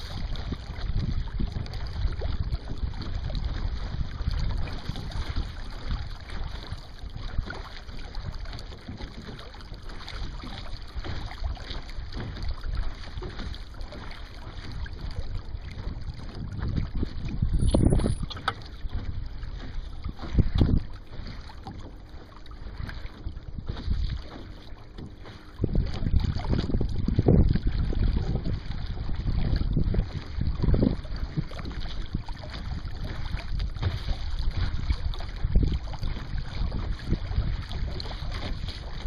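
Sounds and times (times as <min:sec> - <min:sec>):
water slapping along hull: 0:00.0 - 0:39.0
wind buffeting microphone: 0:00.0 - 0:39.0.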